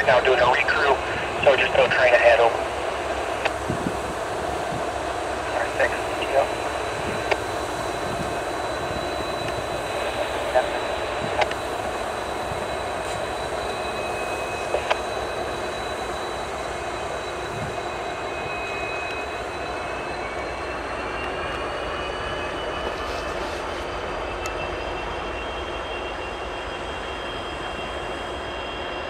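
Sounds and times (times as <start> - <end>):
diesel locomotive engine drone: 0.0 - 29.0
high whines rising in pitch: 0.0 - 29.0.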